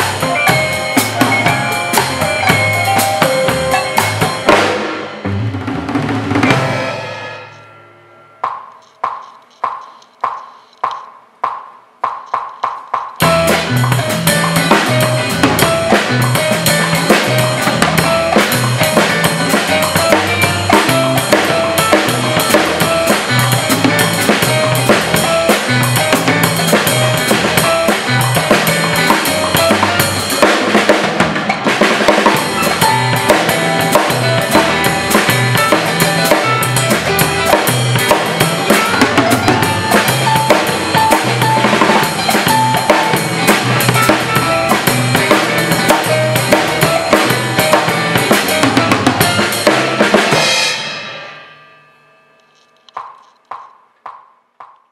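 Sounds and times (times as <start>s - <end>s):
backing track with bass line: 0.0s - 7.7s, 12.3s - 50.8s
drum kit salsa groove: 0.0s - 51.5s, 52.8s - 54.9s.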